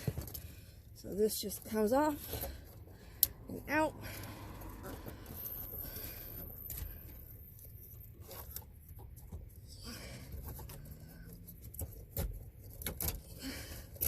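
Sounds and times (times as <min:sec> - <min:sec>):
cable rustling and scraping: 0:00.0 - 0:14.0.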